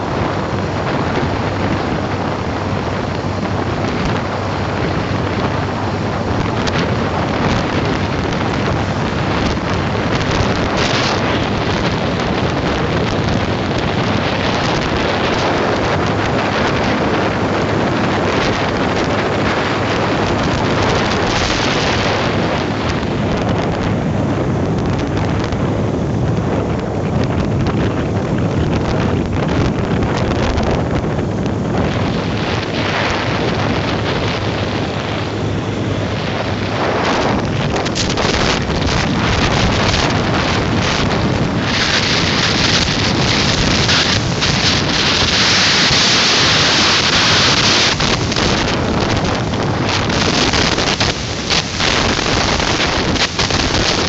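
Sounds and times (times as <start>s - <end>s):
motorcycle engine running: 0.0s - 54.0s
tyres on road: 0.0s - 54.0s
wind buffeting microphone: 0.0s - 54.0s.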